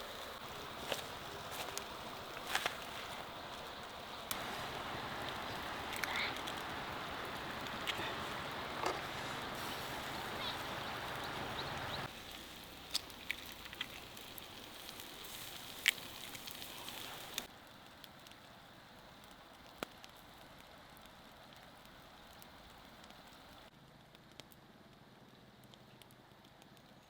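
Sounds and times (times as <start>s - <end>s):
steady hiss: 0.0s - 23.7s
wood fire crackling: 0.0s - 27.0s
sharp fire pops: 0.4s - 24.5s.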